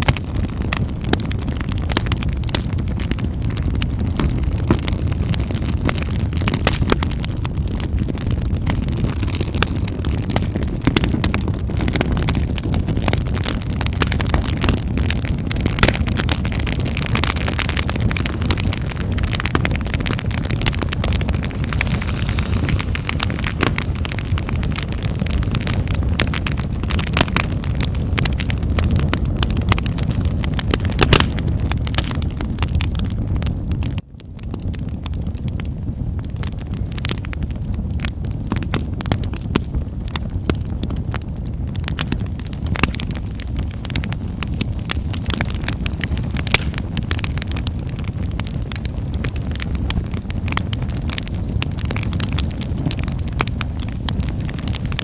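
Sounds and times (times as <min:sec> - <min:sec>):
low rush of flames: 0:00.0 - 0:55.0
wood fire crackling and popping: 0:00.0 - 0:55.0.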